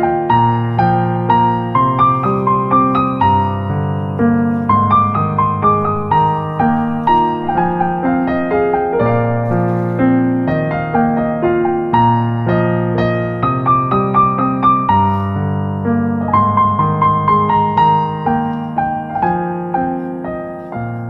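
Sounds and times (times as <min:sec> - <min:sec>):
electric piano melody: 0:00.0 - 0:21.0.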